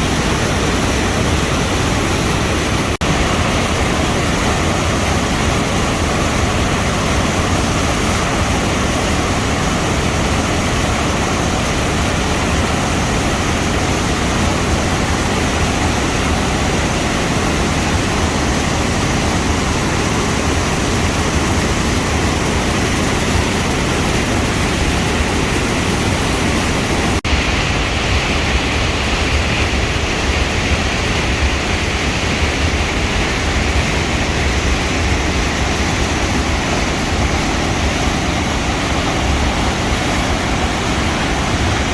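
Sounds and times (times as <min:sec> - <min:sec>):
water rushing over waterfall: 0:00.0 - 0:41.9.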